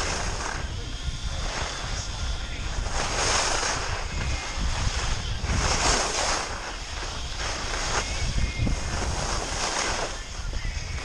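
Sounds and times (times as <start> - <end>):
skis carving over snow: 0.0 - 11.0
wind buffeting microphone: 0.0 - 11.0.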